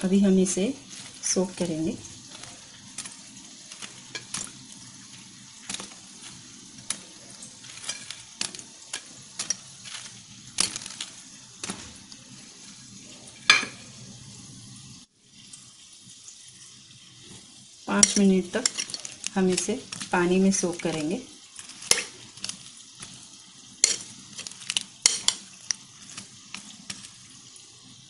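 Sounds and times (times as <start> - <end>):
faint sizzle: 0.0 - 28.0.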